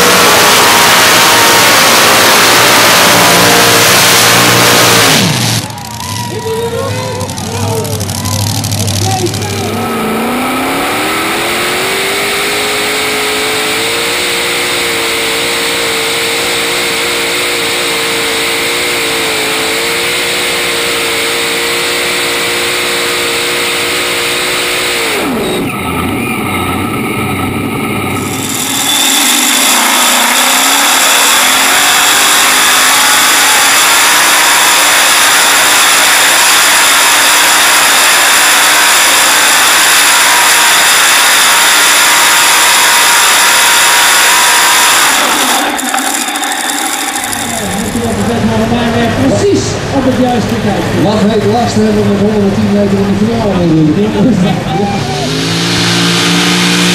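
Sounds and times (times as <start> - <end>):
tractor engine roaring: 0.0 - 56.9.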